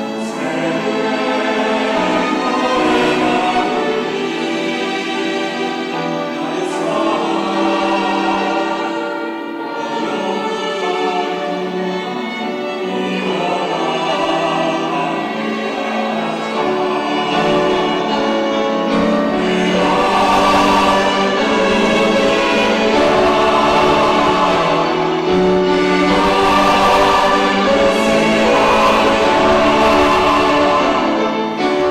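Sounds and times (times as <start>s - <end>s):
church choir singing: 0.0s - 31.9s.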